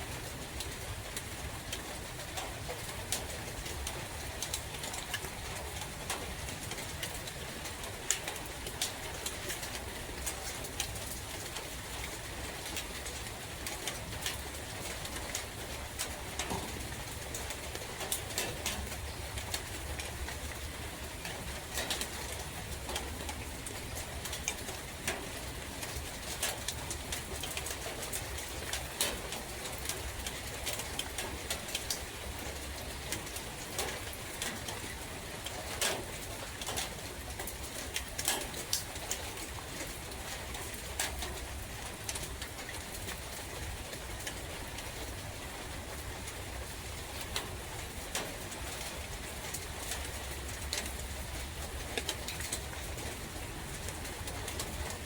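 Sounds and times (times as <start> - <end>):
steady rain with dripping: 0.0 - 55.0.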